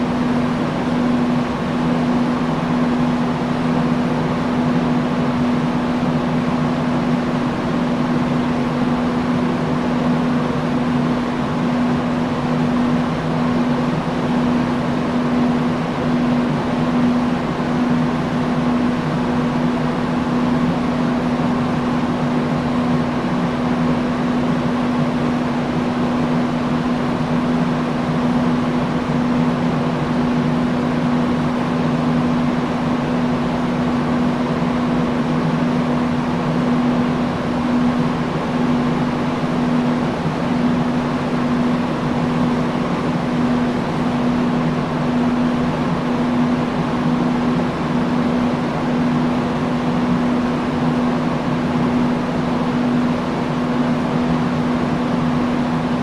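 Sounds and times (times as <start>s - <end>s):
fan air rushing: 0.0s - 56.0s.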